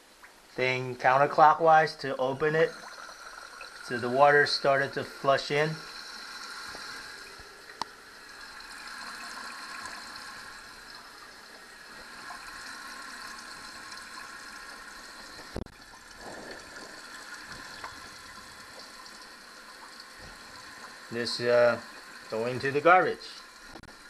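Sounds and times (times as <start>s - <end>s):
water filling toilet tank: 0.6s - 24.0s.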